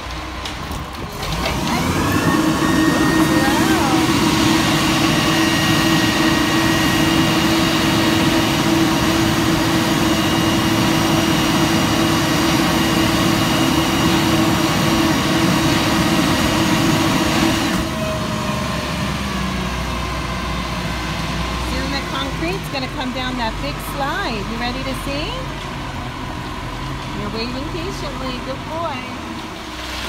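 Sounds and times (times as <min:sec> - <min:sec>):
strong steady hum: 0:00.0 - 0:29.4
diesel engine and drum running: 0:00.0 - 0:30.0.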